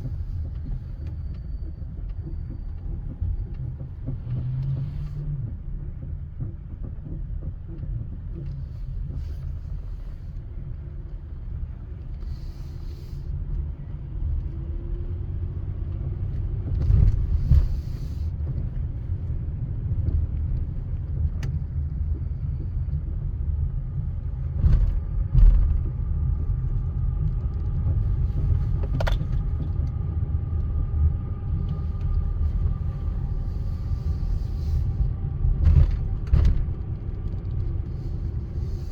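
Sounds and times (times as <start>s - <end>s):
vehicle road rumble: 0.0s - 38.9s.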